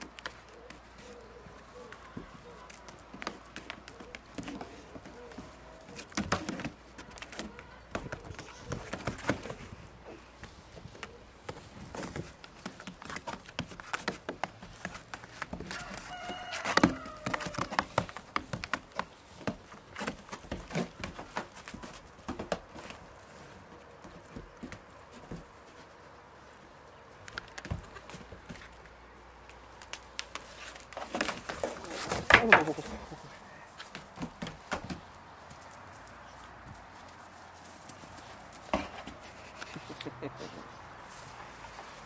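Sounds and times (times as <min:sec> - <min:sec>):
hooves tapping on wooden roof: 0:00.0 - 0:26.2, 0:27.2 - 0:40.2.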